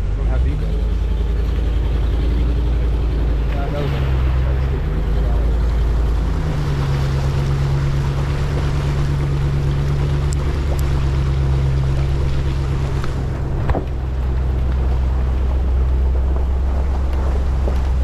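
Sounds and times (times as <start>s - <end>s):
truck engine running: 0.0s - 18.0s
water washing around vehicle: 0.0s - 18.0s.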